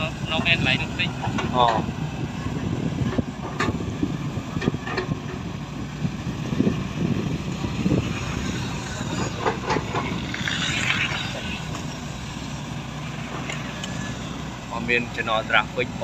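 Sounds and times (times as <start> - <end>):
excavator diesel engine under load: 0.0 - 16.0.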